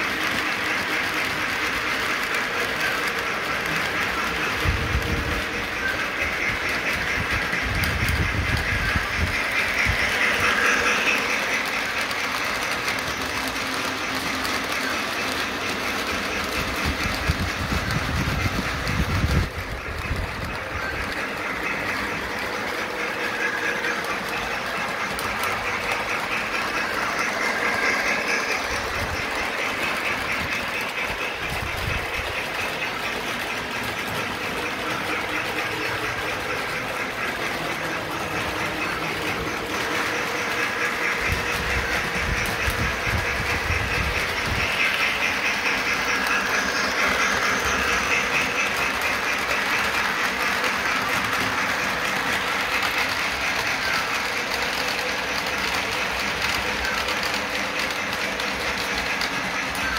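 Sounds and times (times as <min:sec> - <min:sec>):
model train rumbling and clattering: 0:00.0 - 0:59.9.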